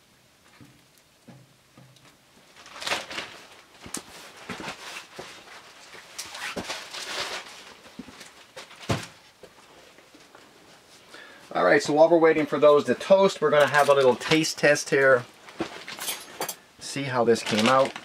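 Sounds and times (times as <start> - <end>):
crackling and sizzling on stove top: 0.0 - 11.6, 12.3 - 18.0.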